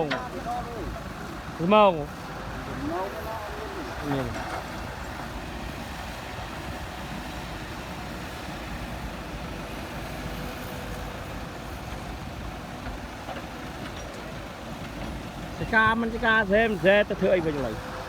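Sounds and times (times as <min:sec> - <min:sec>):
heavy vehicle engine rumbling: 0:00.0 - 0:18.0.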